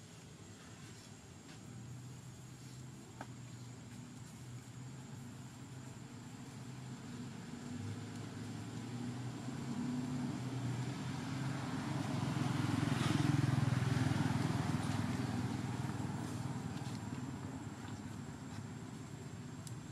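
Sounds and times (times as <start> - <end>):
vehicle engine humming past: 3.6 - 19.9.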